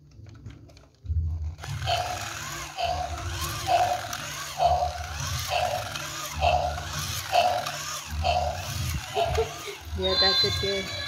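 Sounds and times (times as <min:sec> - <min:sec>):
repeating mechanical sound: 0:01.6 - 0:11.0
toy motor humming: 0:01.6 - 0:11.0.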